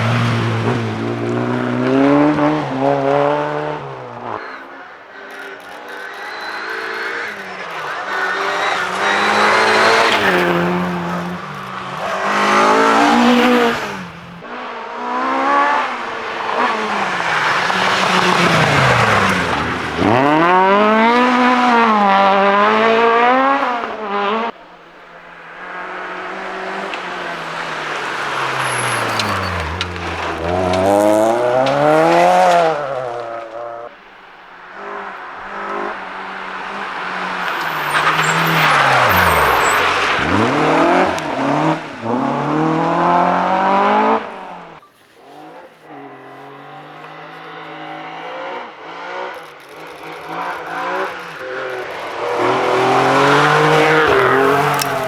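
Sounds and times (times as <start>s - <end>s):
tyre squeal: 0.0s - 14.5s, 15.5s - 24.0s, 25.0s - 34.0s, 34.8s - 55.0s
rally car engines revving: 0.0s - 55.0s.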